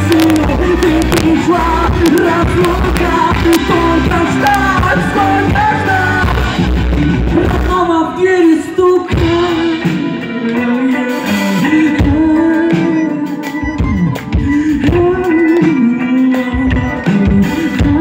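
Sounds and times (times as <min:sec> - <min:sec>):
electric guitar: 0:00.0 - 0:18.0
live band playing: 0:00.0 - 0:18.0.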